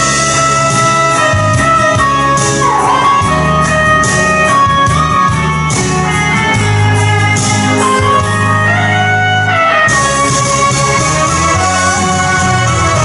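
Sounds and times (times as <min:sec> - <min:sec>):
instrumental backing music: 0:00.0 - 0:13.0.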